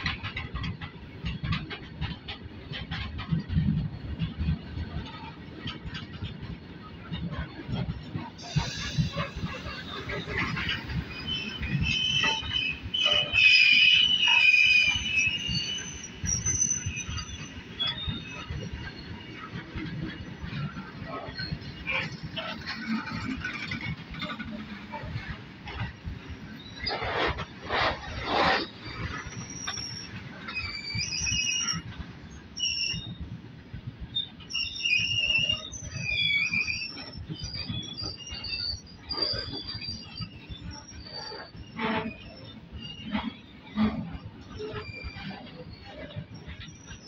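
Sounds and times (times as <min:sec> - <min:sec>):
low rumble of wagons: 0:00.0 - 0:47.0
train wheels squealing: 0:00.0 - 0:47.0
wheels clanking over rails: 0:00.0 - 0:47.0.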